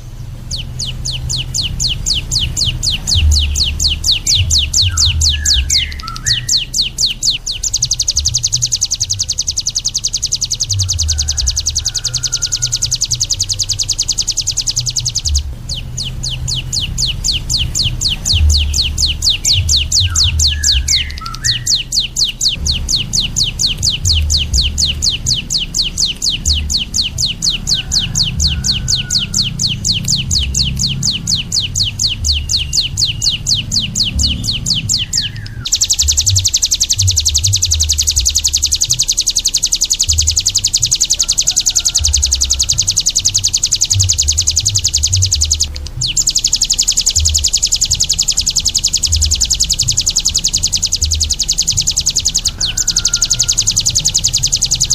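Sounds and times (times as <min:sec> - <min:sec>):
high buzzing trill: 0:00.0 - 0:54.9
songbird singing: 0:00.0 - 0:54.9.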